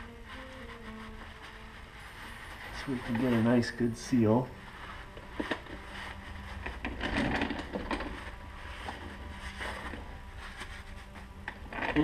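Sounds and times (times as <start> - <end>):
cloth rag rubbing on metal: 0.0 - 12.0.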